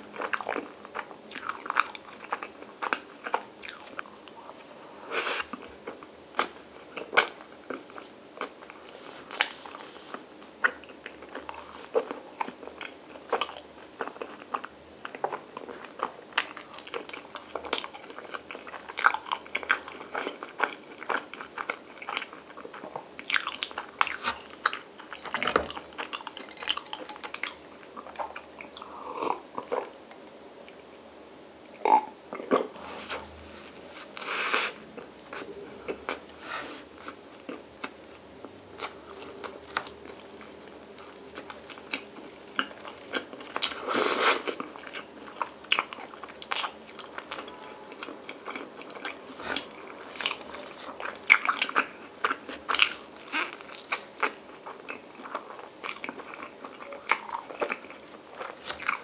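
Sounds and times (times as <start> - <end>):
person chewing bread: 0.0 - 4.8, 5.4 - 31.0, 31.7 - 59.0.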